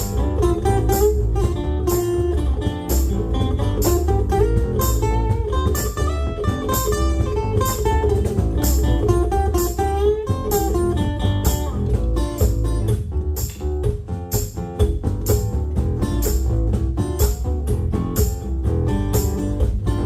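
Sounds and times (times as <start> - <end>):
bass guitar: 0.0 - 20.0
drums beating: 0.0 - 20.0
guitar lead line: 0.0 - 20.0.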